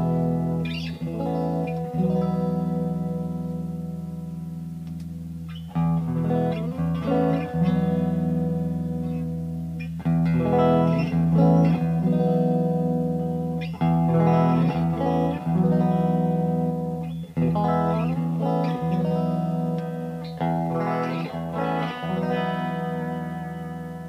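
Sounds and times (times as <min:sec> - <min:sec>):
electric guitar chords ringing: 0:00.0 - 0:24.0
picked guitar notes: 0:00.0 - 0:24.0.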